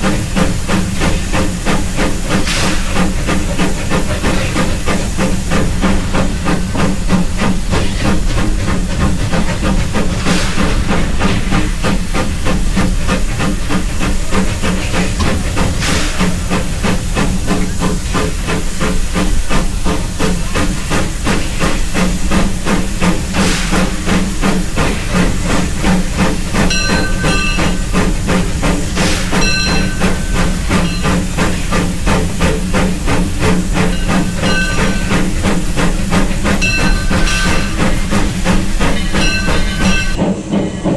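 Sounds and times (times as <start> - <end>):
steam hissing: 0.0 - 40.9
steam locomotive exhaust chuffs: 0.0 - 40.9.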